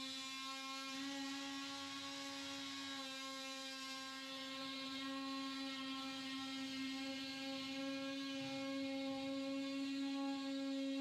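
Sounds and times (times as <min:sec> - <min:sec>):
cutting tool cutting drywall: 0:00.0 - 0:11.0.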